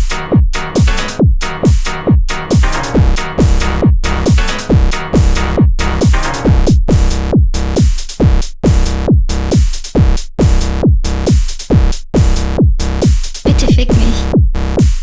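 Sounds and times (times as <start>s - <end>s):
drum machine kick drum: 0.0s - 15.0s.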